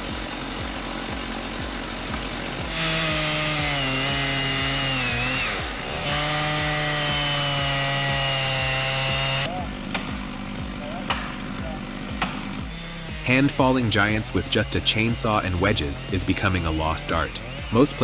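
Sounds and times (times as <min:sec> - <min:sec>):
background music beat: 0:00.0 - 0:18.0
chainsaw running: 0:00.0 - 0:18.0.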